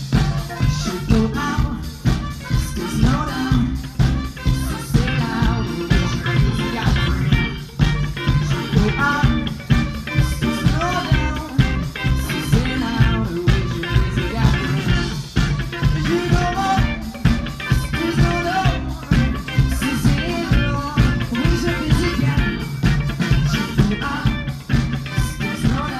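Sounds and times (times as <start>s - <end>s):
drum kit: 0.0s - 25.9s
electric bass: 0.0s - 25.9s
electric guitar: 0.0s - 25.9s
person singing: 0.0s - 25.9s.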